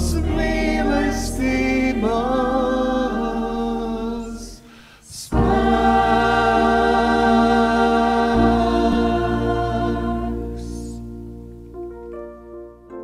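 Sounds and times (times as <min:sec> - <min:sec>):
mixed choir singing a hymn: 0:00.0 - 0:11.1.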